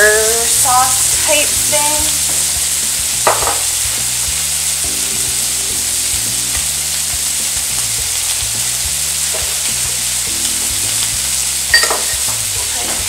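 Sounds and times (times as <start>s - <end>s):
fish and vegetables sizzling: 0.0s - 13.0s
low background music: 0.0s - 13.0s.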